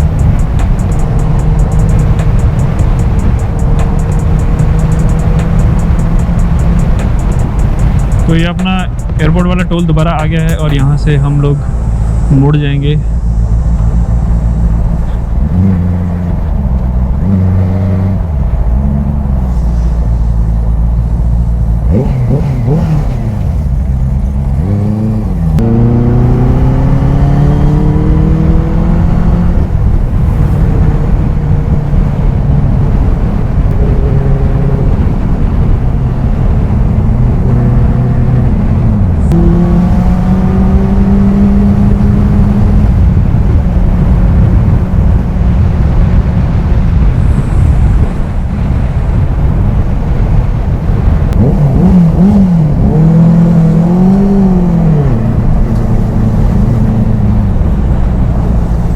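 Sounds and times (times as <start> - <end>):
motorcycle engine accelerating: 0.0 - 58.9
wind and road noise: 0.0 - 58.9.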